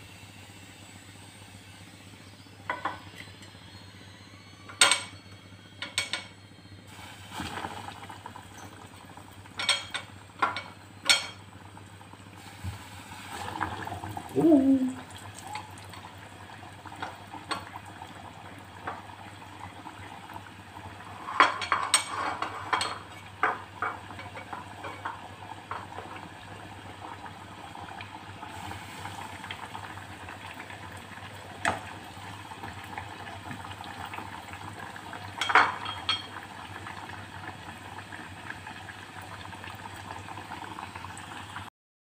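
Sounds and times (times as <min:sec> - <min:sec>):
oil bubbling and hissing: 0:00.0 - 0:41.7.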